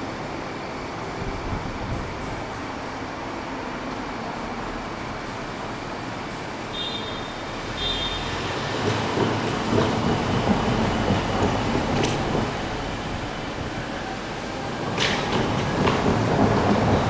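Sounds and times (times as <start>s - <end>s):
electric train approaching: 0.0s - 17.0s
rumble of trains and traffic: 0.0s - 17.0s.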